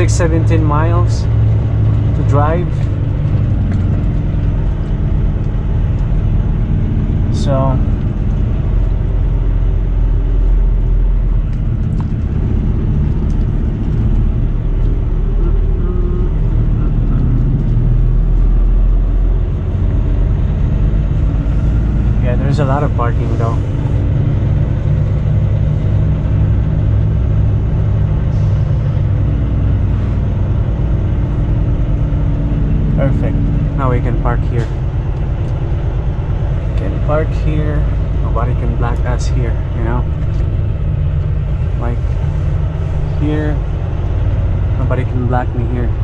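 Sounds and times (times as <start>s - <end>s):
diesel truck engine rumble: 0.0s - 46.0s.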